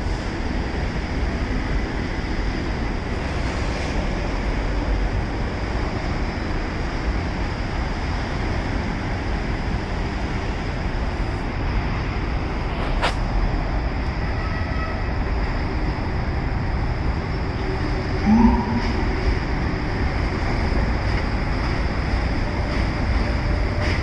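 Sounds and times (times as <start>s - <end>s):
subway train rumbling on track: 0.0s - 24.0s.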